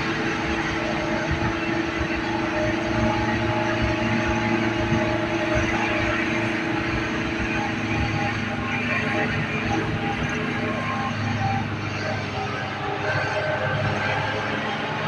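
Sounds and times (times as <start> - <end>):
droning hum: 0.0 - 15.0
tyres on wet road: 0.0 - 15.0
vehicle engine and tyre noise: 0.0 - 15.0.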